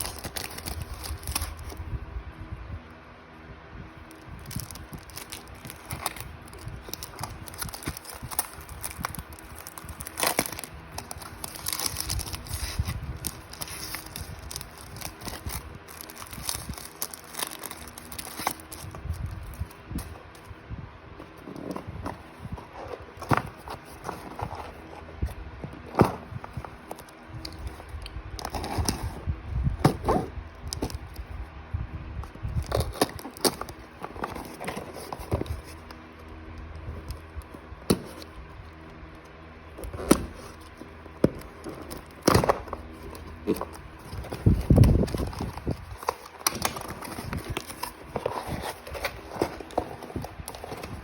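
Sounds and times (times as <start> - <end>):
packaging rustling: 0.0 - 2.0, 4.0 - 20.6, 21.2 - 29.2, 32.6 - 36.1, 39.6 - 51.0.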